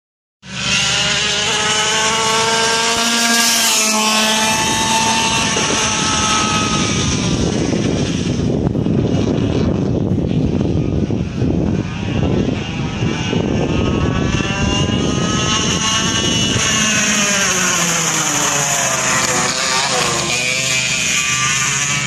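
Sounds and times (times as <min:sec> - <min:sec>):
kart engine revving: 0:00.5 - 0:22.0.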